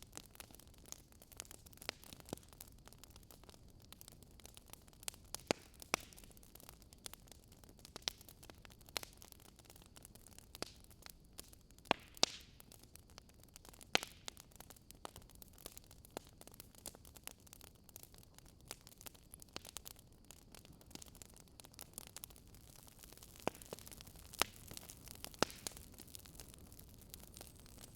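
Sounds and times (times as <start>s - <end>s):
faint steady hiss: 0.0s - 27.9s
wood fire crackling: 0.0s - 27.9s.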